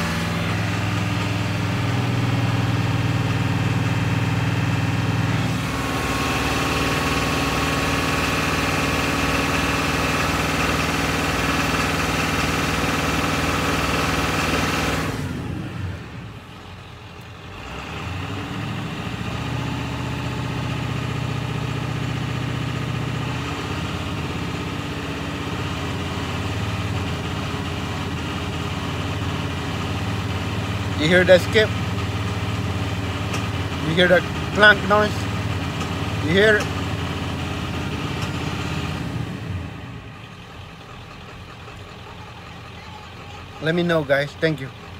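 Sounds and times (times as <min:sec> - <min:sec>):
diesel engine at raised revs: 0:00.0 - 0:44.9
engine skip and clank: 0:00.0 - 0:44.9.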